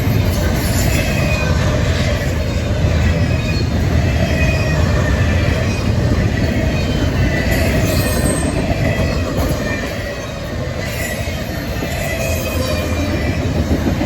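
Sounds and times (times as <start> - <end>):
freight train wheels rumbling: 0.0 - 14.0
wheel squeals: 2.2 - 13.6.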